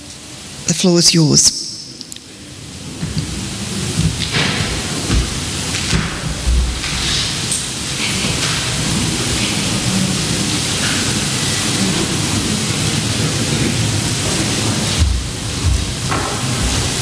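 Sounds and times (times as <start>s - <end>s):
steady static hiss: 0.0s - 17.0s.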